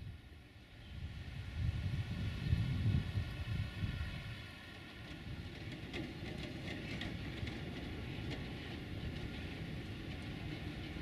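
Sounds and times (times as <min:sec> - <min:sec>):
freight train wheels rumbling on track: 0:00.0 - 0:11.0.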